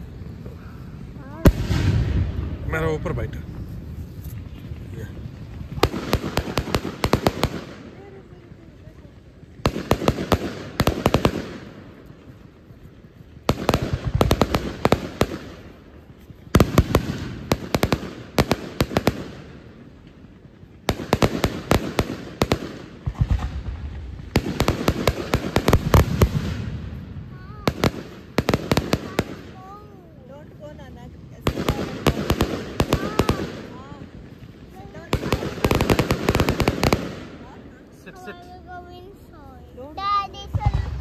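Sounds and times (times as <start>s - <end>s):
fireworks cracking: 0.0s - 41.0s.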